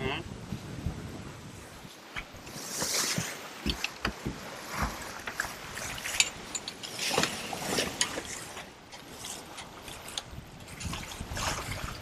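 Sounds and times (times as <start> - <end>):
water washing along hull: 0.0 - 12.0.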